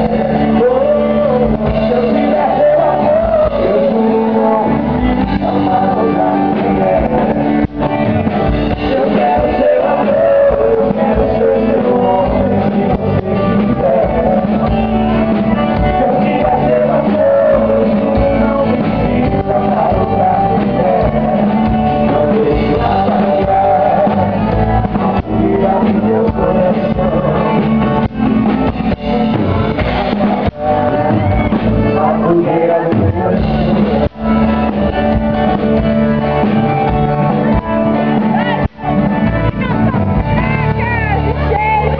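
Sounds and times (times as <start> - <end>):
male vocal duo singing: 0.0 - 35.1
band with guitar: 0.0 - 41.9.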